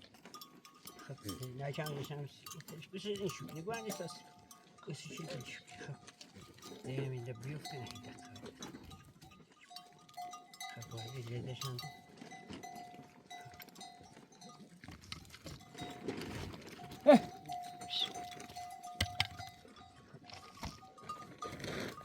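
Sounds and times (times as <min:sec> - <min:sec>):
sheep and goat bells ringing: 0:00.0 - 0:22.0.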